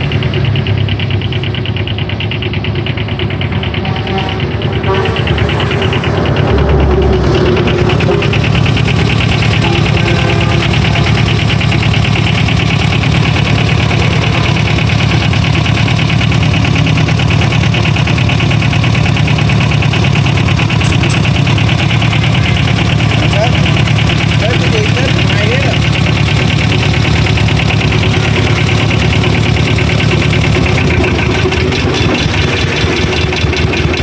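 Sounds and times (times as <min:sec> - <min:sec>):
diesel engine clattering: 0:00.0 - 0:34.0.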